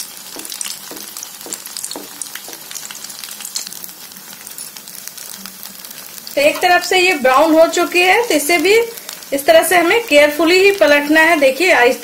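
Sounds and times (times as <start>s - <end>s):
batter sizzling in hot oil: 0.0s - 12.0s
hot oil spooned over food: 0.0s - 12.0s.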